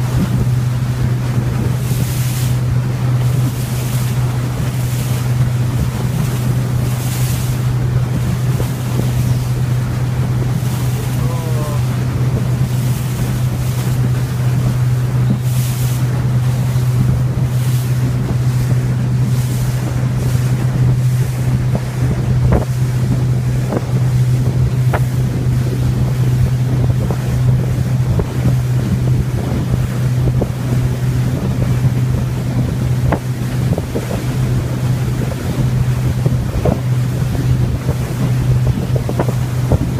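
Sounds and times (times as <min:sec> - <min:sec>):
boat engine droning: 0:00.0 - 0:39.9
water rushing: 0:00.0 - 0:39.9
wind on microphone: 0:00.0 - 0:39.9.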